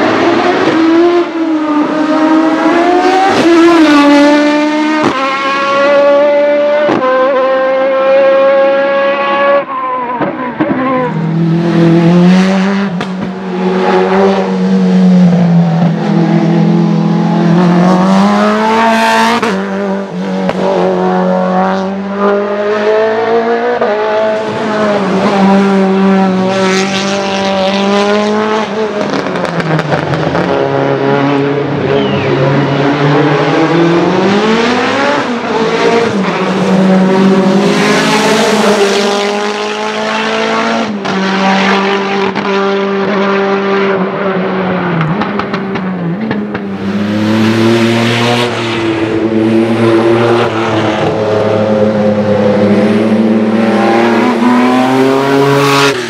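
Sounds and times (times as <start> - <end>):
race car engines revving hard: 0.0 - 56.0.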